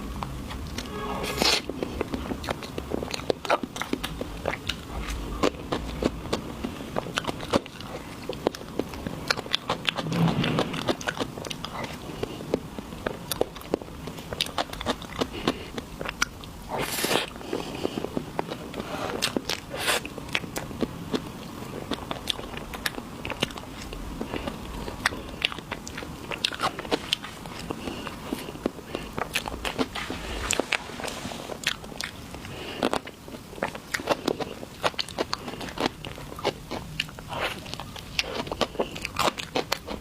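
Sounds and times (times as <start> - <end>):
crunching and chewing: 1.5 - 40.0.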